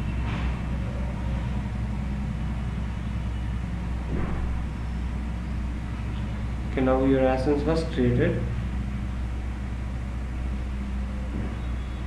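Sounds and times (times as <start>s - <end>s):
low rumble and hum: 0.0s - 12.0s.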